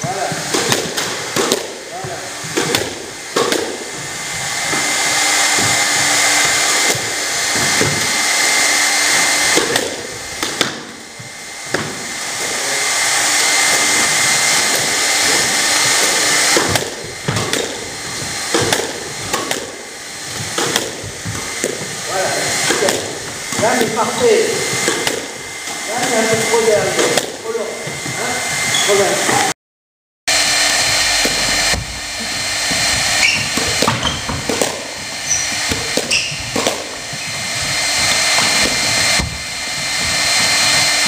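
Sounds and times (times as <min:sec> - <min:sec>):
squash ball striking walls: 0:00.0 - 0:12.4, 0:13.2 - 0:28.7, 0:30.6 - 0:41.0.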